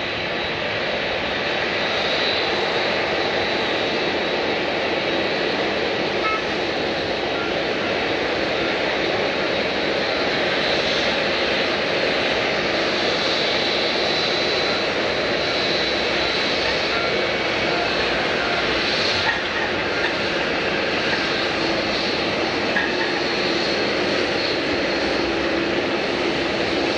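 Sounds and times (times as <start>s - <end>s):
high engine whine: 0.0s - 26.9s
jet engines running: 0.0s - 26.9s.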